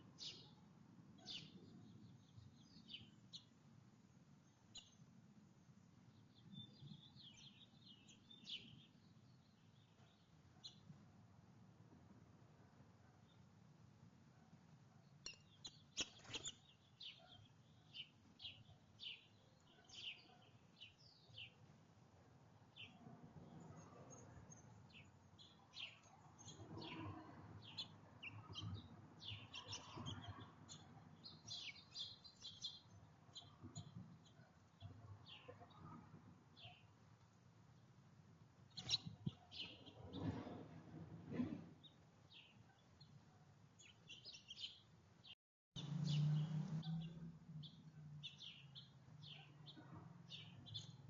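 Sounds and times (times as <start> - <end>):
songbirds chirping faintly: 0.0 - 51.0.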